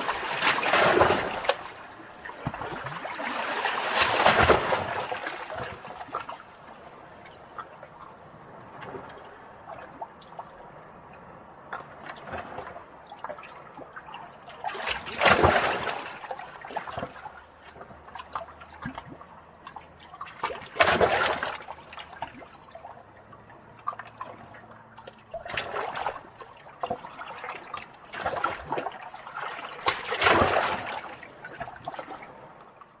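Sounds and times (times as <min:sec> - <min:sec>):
waves splashing: 0:00.0 - 0:32.8
waves lapping against rocks: 0:00.0 - 0:33.0
water trickling and dripping: 0:04.3 - 0:14.6, 0:16.3 - 0:20.8, 0:21.4 - 0:33.0.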